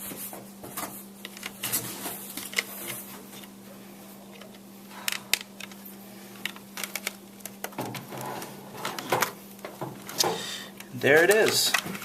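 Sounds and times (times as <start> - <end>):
laptop low hum: 0.0 - 12.0.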